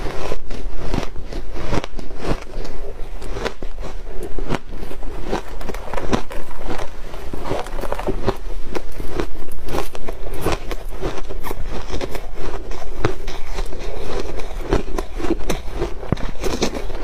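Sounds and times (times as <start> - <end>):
chewing crunchy shaved ice: 0.0 - 17.0.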